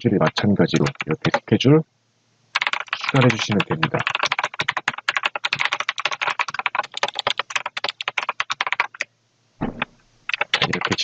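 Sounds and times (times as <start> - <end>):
fast typing on keyboard: 0.2 - 1.5, 2.6 - 9.1, 9.8 - 11.0.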